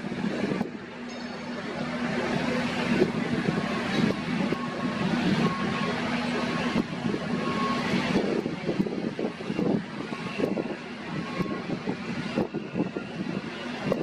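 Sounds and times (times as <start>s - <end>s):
heavy machinery engine hum: 0.0s - 14.0s
wind buffeting microphone: 0.0s - 14.0s.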